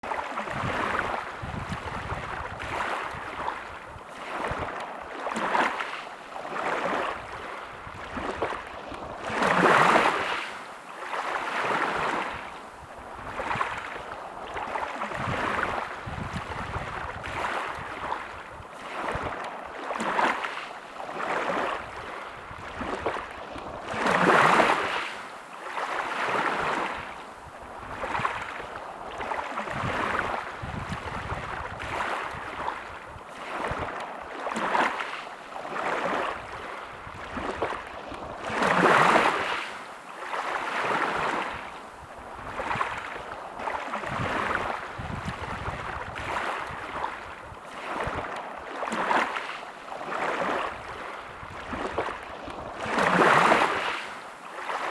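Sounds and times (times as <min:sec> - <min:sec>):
big waves breaking: 0:00.0 - 0:54.9
sea waves washing onto beach: 0:00.0 - 0:54.9.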